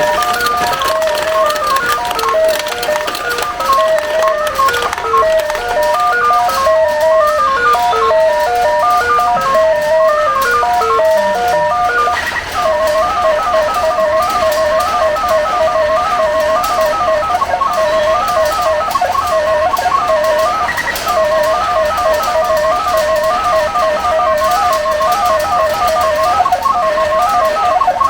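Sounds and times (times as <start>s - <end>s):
electronic beeper melody: 0.0s - 28.0s.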